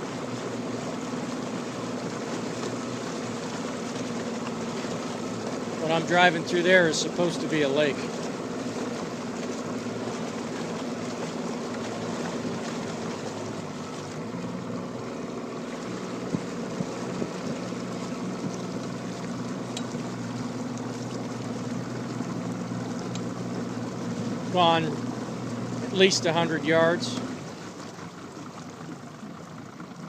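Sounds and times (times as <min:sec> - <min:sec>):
boat motor humming: 0:00.0 - 0:30.0
water washing: 0:00.0 - 0:30.0.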